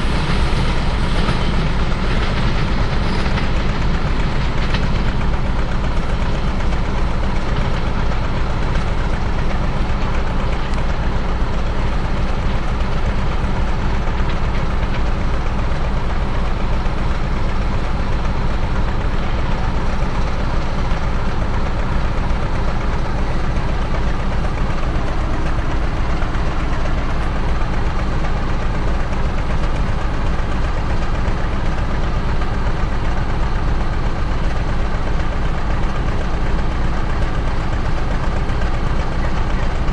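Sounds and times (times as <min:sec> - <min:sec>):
diesel locomotive engine idling: 0:00.0 - 0:39.9.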